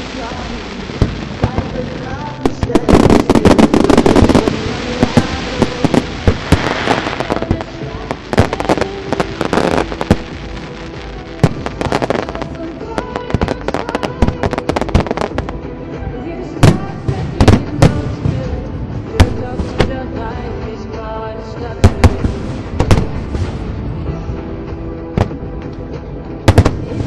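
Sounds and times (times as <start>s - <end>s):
fireworks bursting: 0.0s - 15.7s, 16.6s - 20.5s, 21.6s - 24.1s, 26.5s - 27.0s.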